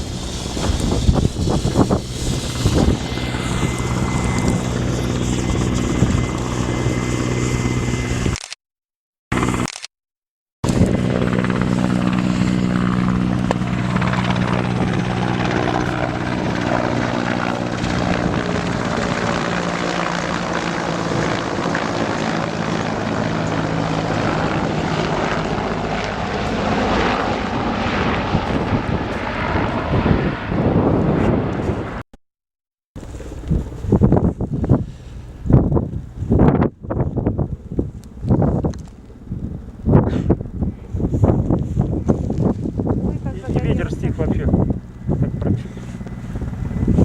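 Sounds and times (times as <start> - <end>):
helicopter drone: 0.0 - 8.5, 9.3 - 9.8, 10.6 - 32.0, 33.0 - 47.0.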